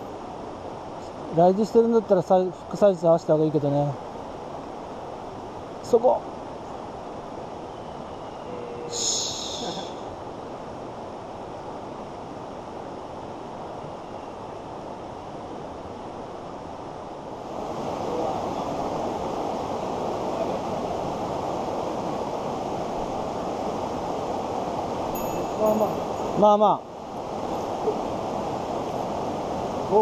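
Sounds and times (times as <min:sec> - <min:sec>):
stream rushing over rocks: 0:00.0 - 0:07.7, 0:08.4 - 0:30.0.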